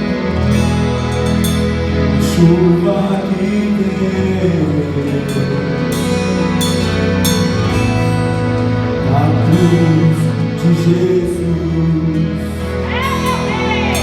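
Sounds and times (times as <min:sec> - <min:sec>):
gospel band playing slow song: 0:00.0 - 0:14.0.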